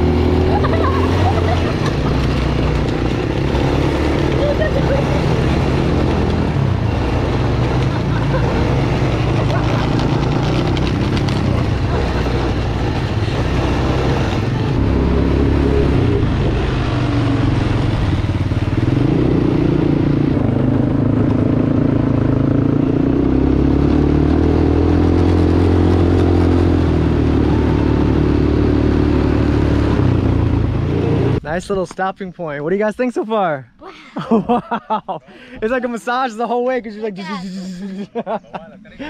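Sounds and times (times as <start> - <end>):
atv engine revving: 0.0 - 31.8.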